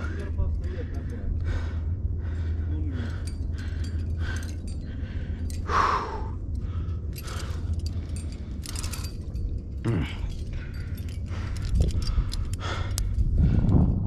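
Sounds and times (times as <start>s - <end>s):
person breathing hard: 0.0s - 14.0s
steady low rumble: 0.0s - 14.0s.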